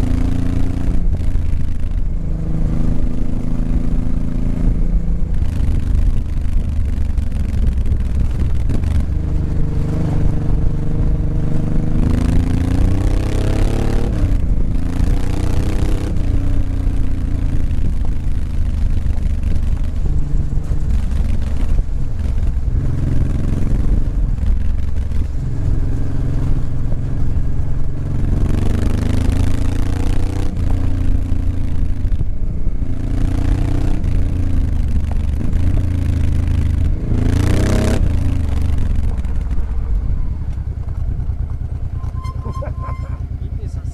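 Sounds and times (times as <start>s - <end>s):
wind noise on microphone: 0.0s - 43.4s
motorcycle engine accelerating: 0.0s - 43.9s.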